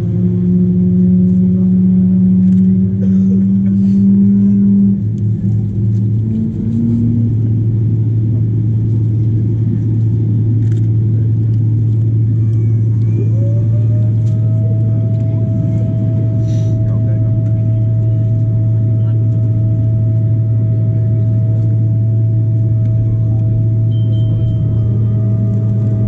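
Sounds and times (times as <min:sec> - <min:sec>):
aircraft cabin drone: 0:00.0 - 0:26.0
higher hum: 0:00.0 - 0:26.0.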